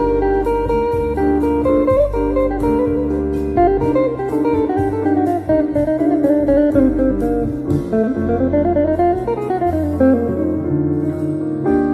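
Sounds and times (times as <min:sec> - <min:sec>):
guitar solo: 0:00.0 - 0:11.9
low bass notes: 0:00.0 - 0:11.9.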